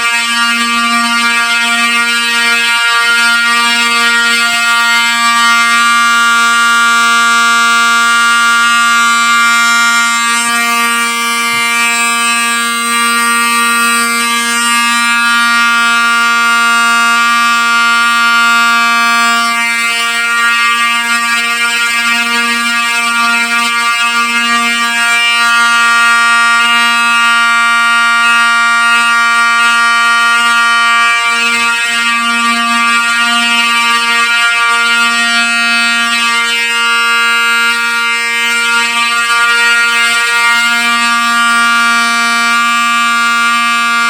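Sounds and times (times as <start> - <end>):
fire alarm horns buzzing: 0.0 - 44.0.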